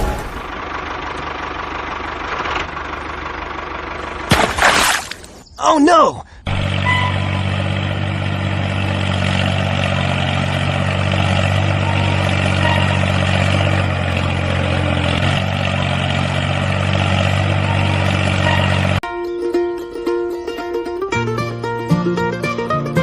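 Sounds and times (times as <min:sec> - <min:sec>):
engine running: 0:00.0 - 0:05.4, 0:06.4 - 0:23.0.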